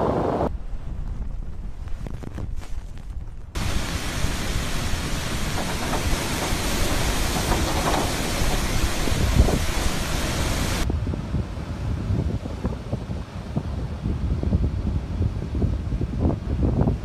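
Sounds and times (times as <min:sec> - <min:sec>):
hiss of wind-driven rain: 0:00.0 - 0:17.0
wind rumbling on microphone: 0:00.0 - 0:17.0.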